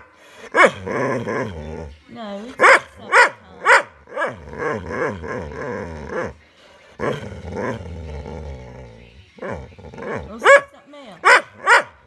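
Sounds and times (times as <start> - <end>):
dog grumbling and growl-whining: 0.0 - 11.9.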